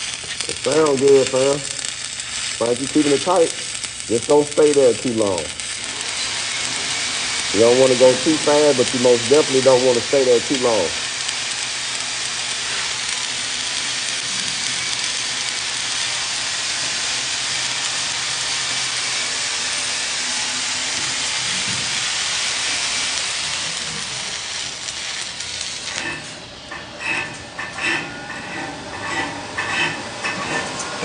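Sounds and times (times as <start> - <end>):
welding arc crackling: 0.0 - 31.0.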